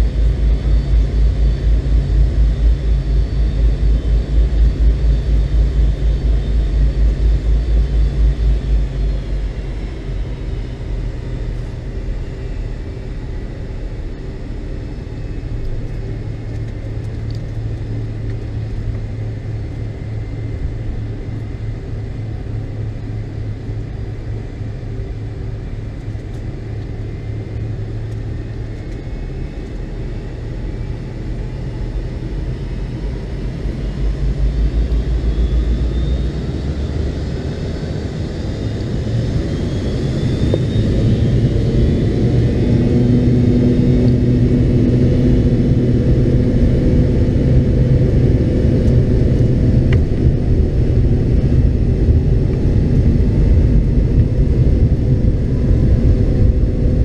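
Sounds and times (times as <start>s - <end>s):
jet engine drone in cabin: 0.0s - 57.0s
low throbbing rumble: 0.0s - 57.0s.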